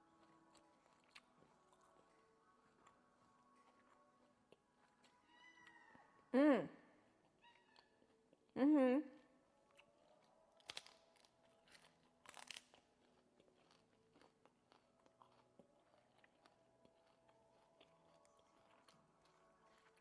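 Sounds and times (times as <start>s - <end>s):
person chewing crunchy cabbage: 0.0s - 6.0s, 9.5s - 20.0s.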